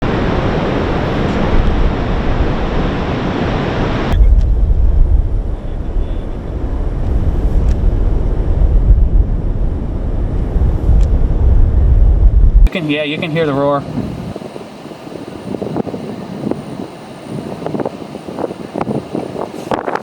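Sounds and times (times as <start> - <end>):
wind buffeting microphone: 0.0 - 12.7, 13.7 - 20.0
tornado wind roar: 0.0 - 20.0.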